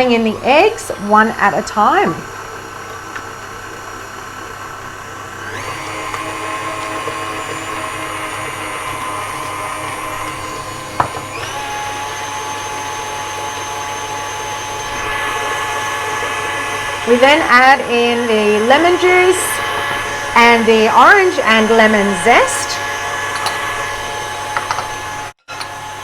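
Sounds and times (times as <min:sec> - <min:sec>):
electric mixer whine: 0:00.0 - 0:26.0.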